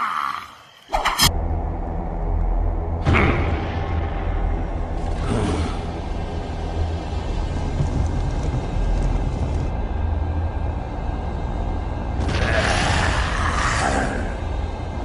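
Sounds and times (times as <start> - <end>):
deep low rumbling grumble: 1.4 - 15.0.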